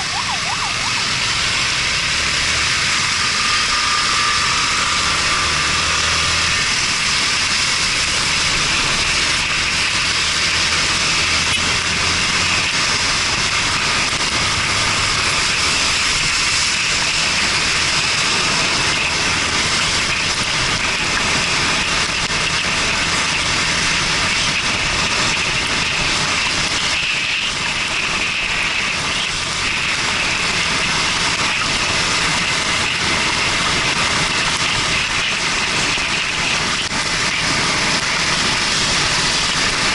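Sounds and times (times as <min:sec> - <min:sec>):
motorcycle engine running: 0:00.0 - 0:39.9
wet road noise: 0:00.0 - 0:39.9.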